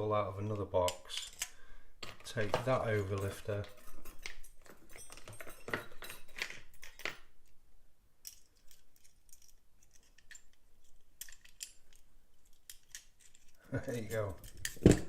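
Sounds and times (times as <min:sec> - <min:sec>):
lock picks clicking and scraping: 0:00.8 - 0:07.6, 0:08.2 - 0:15.0.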